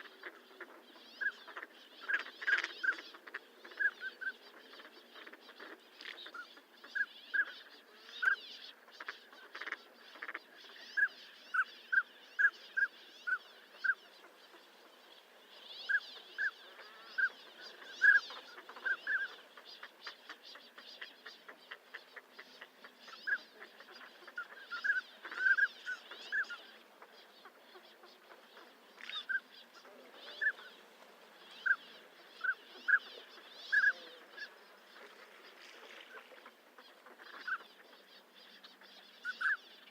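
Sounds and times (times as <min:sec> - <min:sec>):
ducks whistling calls: 0:00.0 - 0:39.9.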